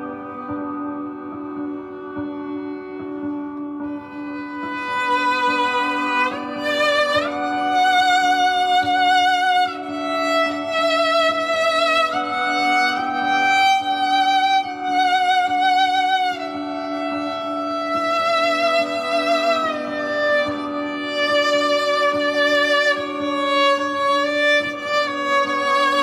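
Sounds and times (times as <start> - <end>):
viola bowed with vibrato: 0.0 - 26.0.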